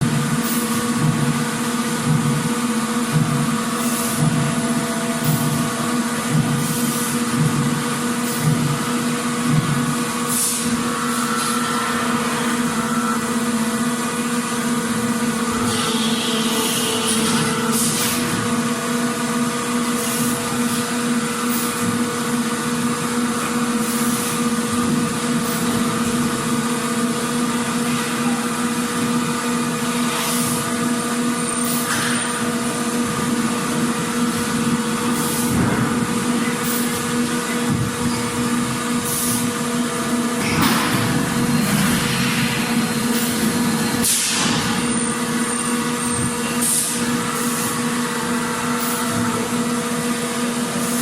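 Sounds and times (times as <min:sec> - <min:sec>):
factory machinery humming: 0:00.0 - 0:51.0.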